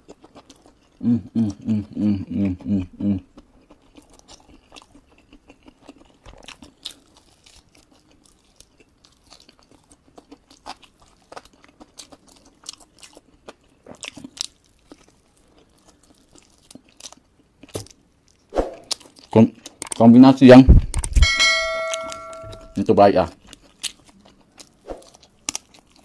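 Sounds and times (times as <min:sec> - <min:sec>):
person biting and chewing: 0:00.0 - 0:01.0, 0:02.5 - 0:20.0, 0:20.8 - 0:21.2, 0:23.3 - 0:26.0
crunching food: 0:00.0 - 0:20.2, 0:22.8 - 0:26.0.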